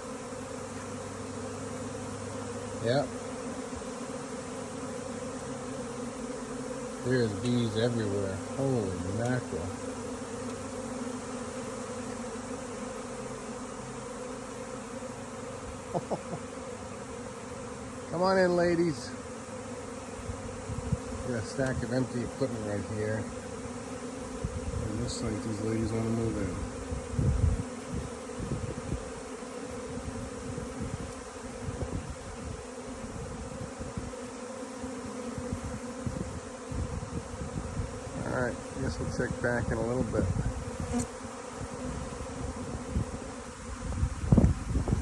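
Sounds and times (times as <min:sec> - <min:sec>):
bee swarm buzzing: 0:00.0 - 0:45.0.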